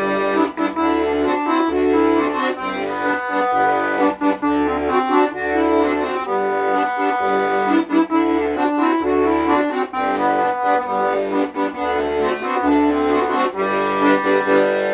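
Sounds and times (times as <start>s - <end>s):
accordion playing: 0.0s - 14.9s.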